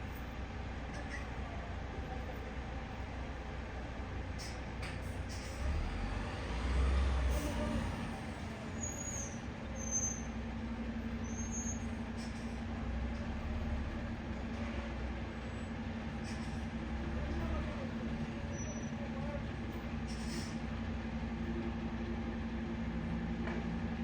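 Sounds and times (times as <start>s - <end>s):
heavy machinery engine rumble: 0.0s - 24.0s.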